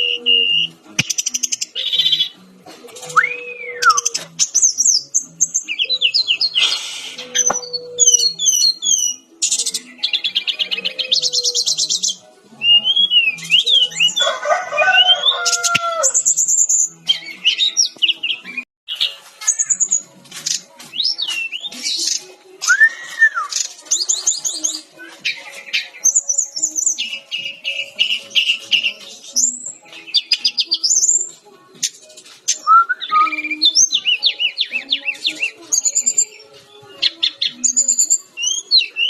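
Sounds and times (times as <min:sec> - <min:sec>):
bird trilling song: 0:00.0 - 0:39.0.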